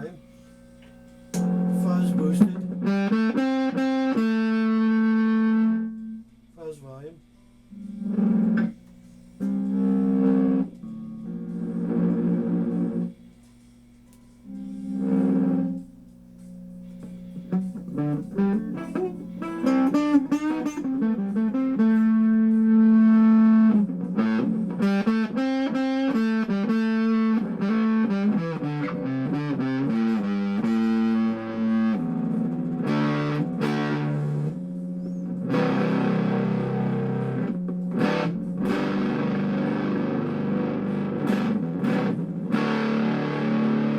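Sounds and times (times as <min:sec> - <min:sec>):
fuzz electric guitar playing: 0:00.0 - 0:06.4, 0:07.5 - 0:13.3, 0:14.1 - 0:43.9.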